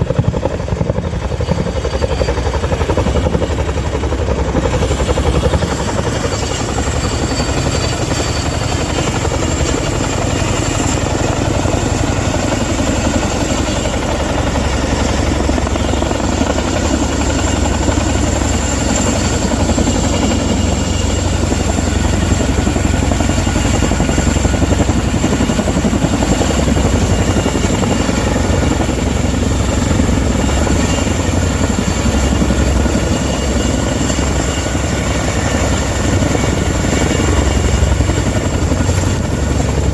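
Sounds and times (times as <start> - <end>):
helicopter rotor beating: 0.0 - 39.9
high turbine whine: 0.0 - 39.9.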